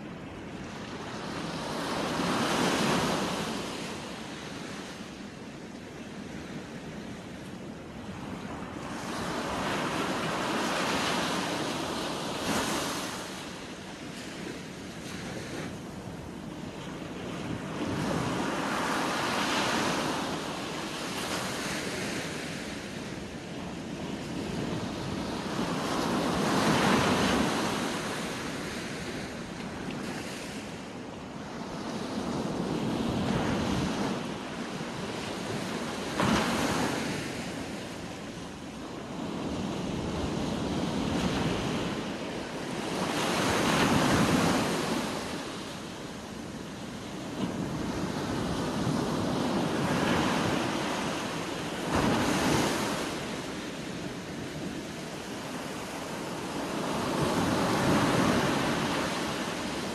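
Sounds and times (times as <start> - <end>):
small waves breaking on shore: 0.0 - 59.9.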